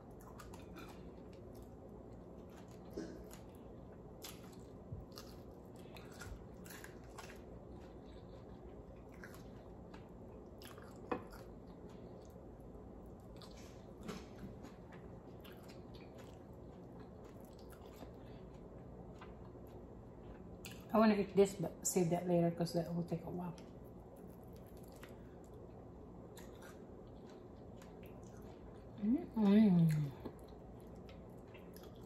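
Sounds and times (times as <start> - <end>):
chewing with wet clicks: 0.0 - 13.9, 14.7 - 20.9, 23.6 - 32.0.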